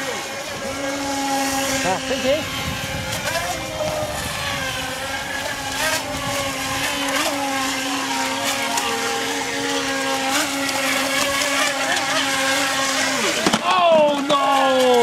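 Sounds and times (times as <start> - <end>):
electric motors whining: 0.0 - 15.0
higher motor whine: 0.0 - 15.0.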